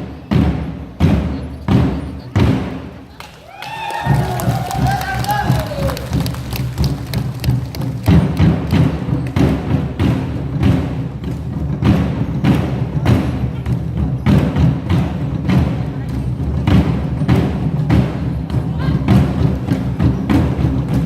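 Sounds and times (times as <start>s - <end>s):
drums struck in steady beat: 0.0s - 3.2s, 3.8s - 21.0s
backing music: 3.9s - 21.0s.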